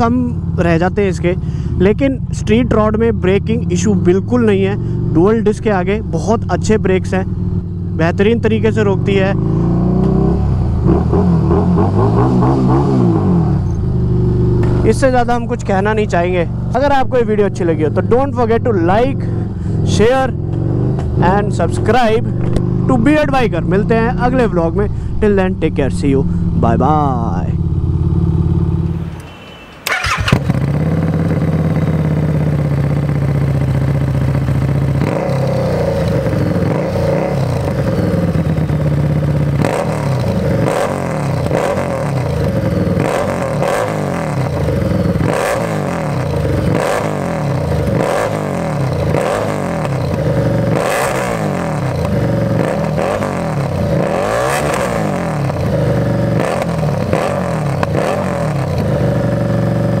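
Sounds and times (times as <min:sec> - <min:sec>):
motorcycle engine idling and revving: 0:00.0 - 1:00.0.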